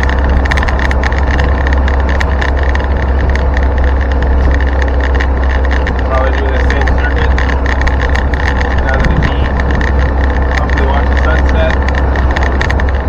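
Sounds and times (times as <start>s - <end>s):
engine and road drone: 0.0s - 13.0s
rapid body rattle: 0.0s - 13.0s.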